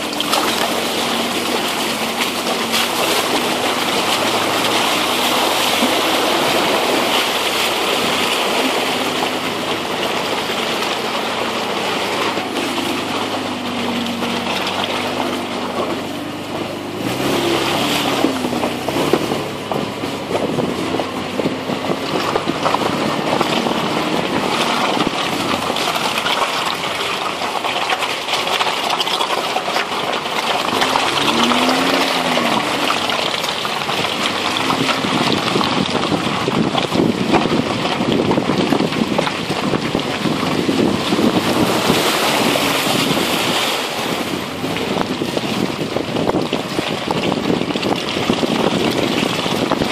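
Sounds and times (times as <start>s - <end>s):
wind on microphone: 0.0s - 26.5s, 30.6s - 49.9s
truck engine rising and falling: 0.0s - 49.9s
tyres rushing through mud and water: 0.0s - 49.9s.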